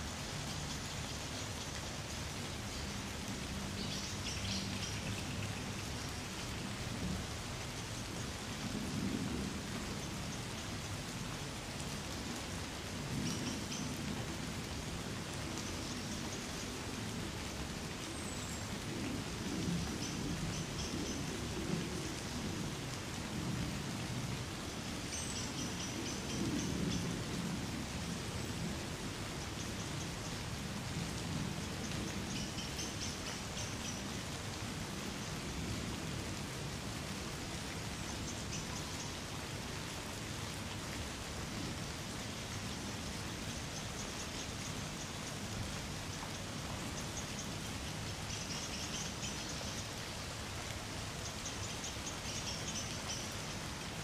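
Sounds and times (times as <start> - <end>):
light rain on trees: 0.0 - 54.0.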